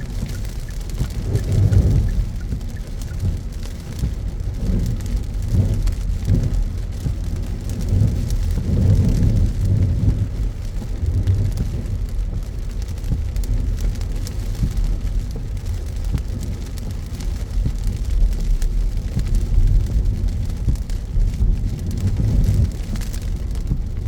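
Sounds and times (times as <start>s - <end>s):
car road rumble: 0.0s - 24.0s
rain hitting car: 0.0s - 24.0s.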